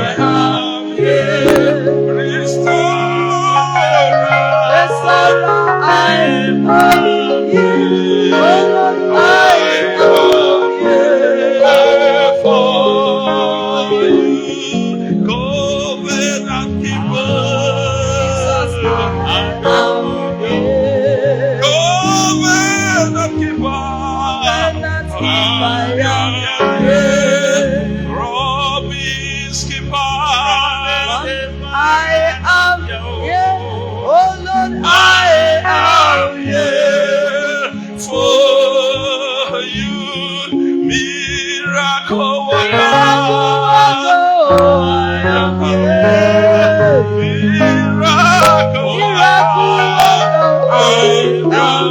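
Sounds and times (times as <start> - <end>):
held instrumental chords: 0.0 - 38.6, 39.5 - 51.9
person singing ornamented runs: 0.0 - 51.9.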